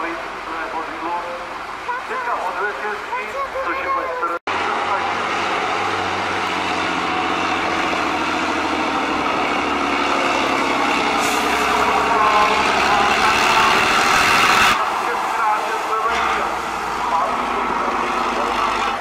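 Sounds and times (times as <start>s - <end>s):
diesel truck engine revving: 3.4s - 19.0s.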